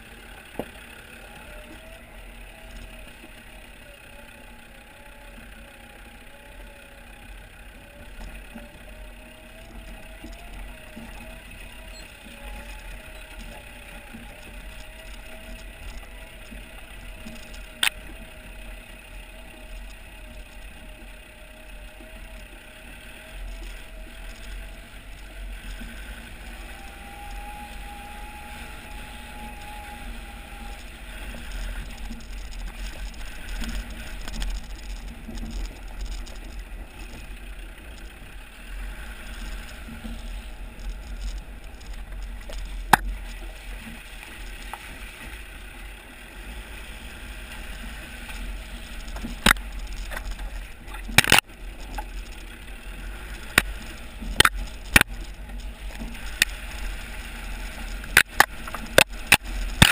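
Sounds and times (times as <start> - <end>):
engine and tyres rumbling on gravel: 0.0 - 59.9.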